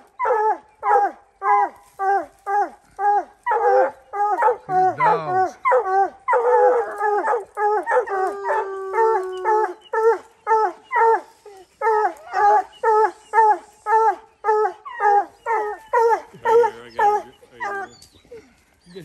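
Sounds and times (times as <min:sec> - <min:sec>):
hound howling: 0:00.0 - 0:18.5
hounds barking: 0:00.0 - 0:18.5.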